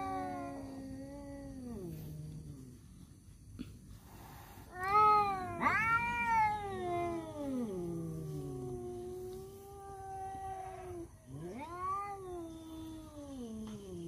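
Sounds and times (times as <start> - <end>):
cats yowling: 0.0 - 2.6, 4.7 - 14.0.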